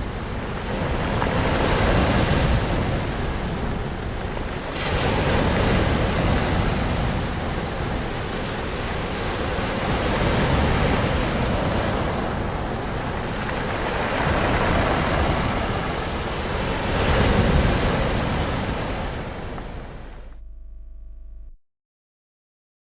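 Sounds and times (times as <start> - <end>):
ocean waves washing in: 0.0 - 20.3.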